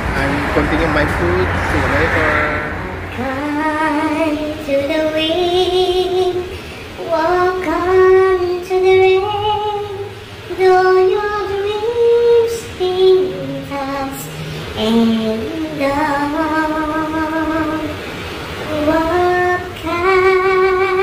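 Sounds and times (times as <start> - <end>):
woman singing slow melody: 3.0 - 21.0.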